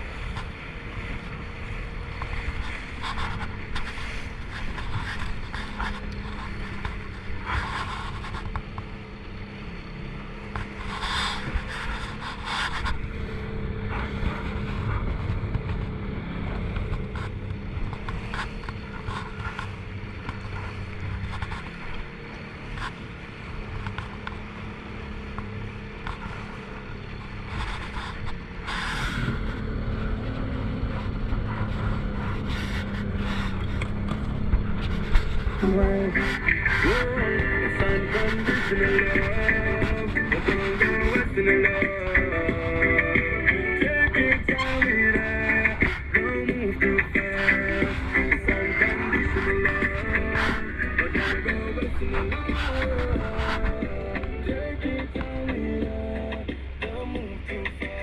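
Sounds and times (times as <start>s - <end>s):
motorboat engine running: 0.0s - 58.0s
rushing wind: 0.0s - 58.0s
water noise: 0.0s - 58.0s.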